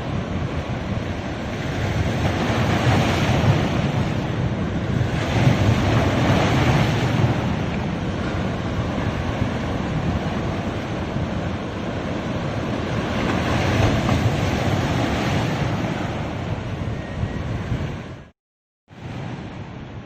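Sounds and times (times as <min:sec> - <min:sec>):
sea waves washing onto beach: 0:00.0 - 0:16.7.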